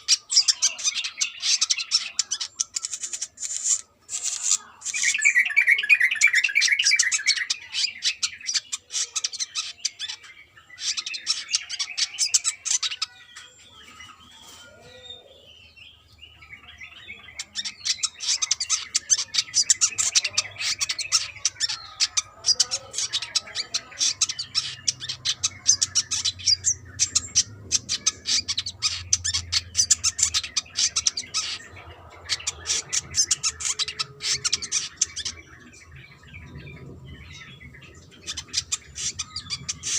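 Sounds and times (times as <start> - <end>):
bird twittering chatter: 0.0 - 39.9.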